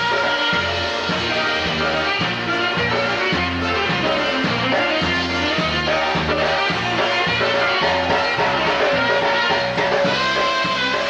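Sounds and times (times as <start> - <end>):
bouncing bass line: 0.0 - 11.0
polka band playing: 0.0 - 11.0.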